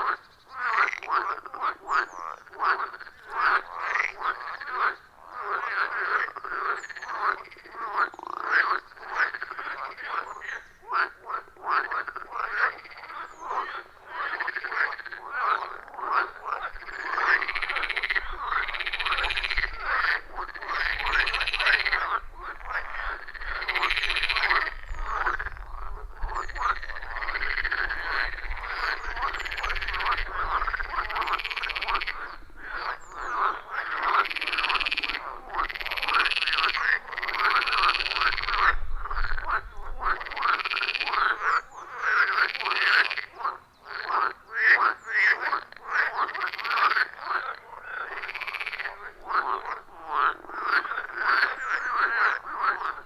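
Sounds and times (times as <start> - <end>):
frogs croaking: 0.0 - 53.0.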